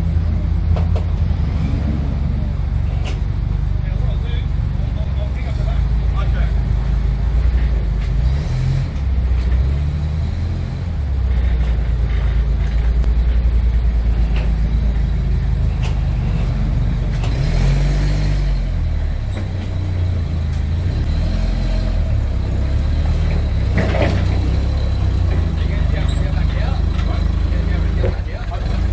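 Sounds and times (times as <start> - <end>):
truck engine rumbling: 0.0 - 28.9.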